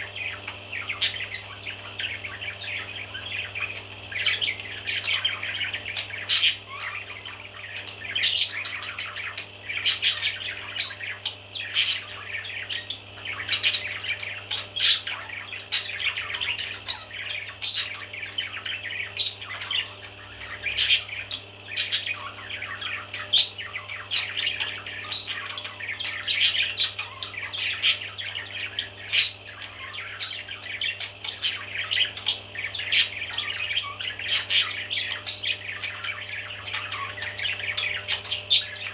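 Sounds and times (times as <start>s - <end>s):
baby parrots chirping and squawking: 0.0s - 38.9s
steady low hum: 0.0s - 38.9s.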